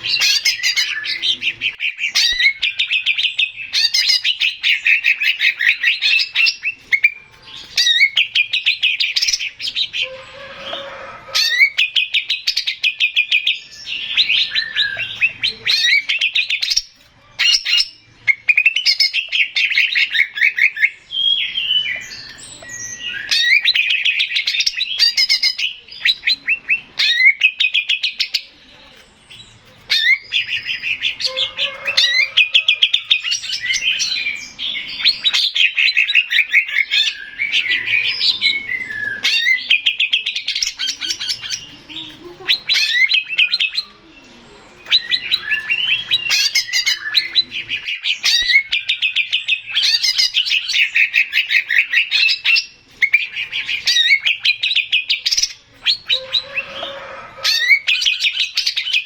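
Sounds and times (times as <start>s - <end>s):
bird singing trilled phrases: 0.0s - 59.0s.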